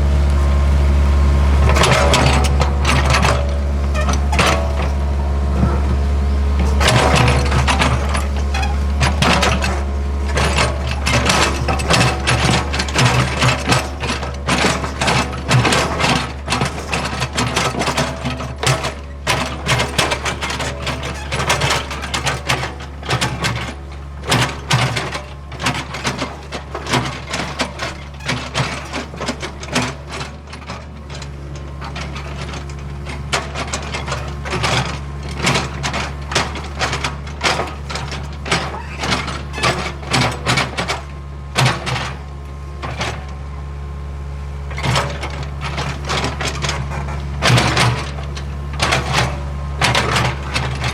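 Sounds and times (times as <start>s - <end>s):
diesel engine humming: 0.0s - 50.9s
excavator clanks and knocks: 0.0s - 50.9s.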